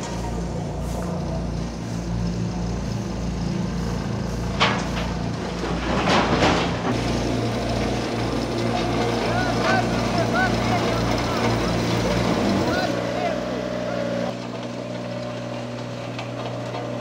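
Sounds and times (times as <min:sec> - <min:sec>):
diesel machinery throbbing: 0:00.0 - 0:17.0.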